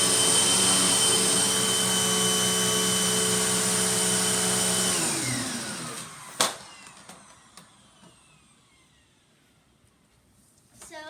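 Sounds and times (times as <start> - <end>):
vacuum cleaner motor whine: 0.0 - 9.4.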